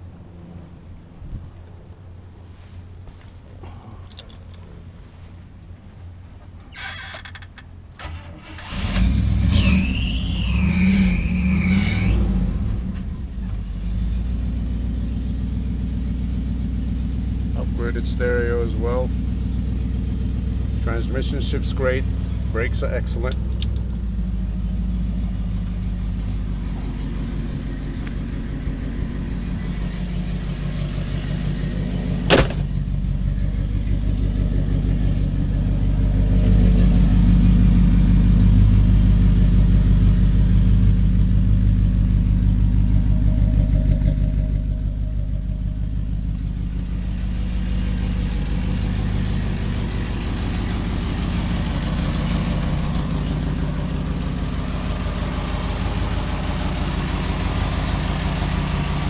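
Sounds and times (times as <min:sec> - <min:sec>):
engine idling through exhaust: 0:00.0 - 0:06.8, 0:12.0 - 0:59.0.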